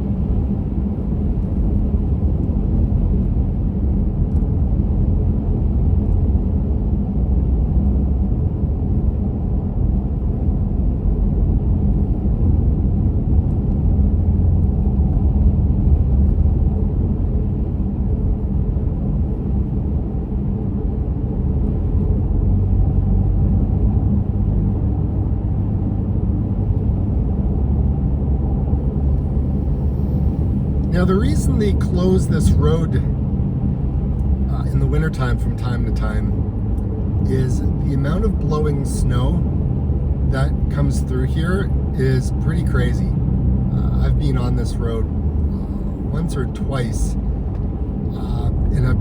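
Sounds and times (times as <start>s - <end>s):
car engine and tyre noise: 0.0s - 49.0s.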